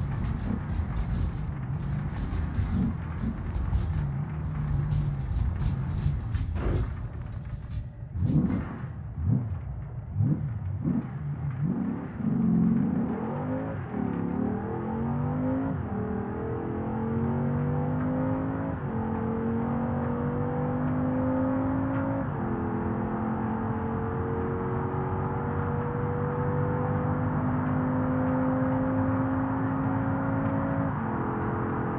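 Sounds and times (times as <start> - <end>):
car engine accelerating: 0.0 - 31.9
road noise: 0.0 - 31.9.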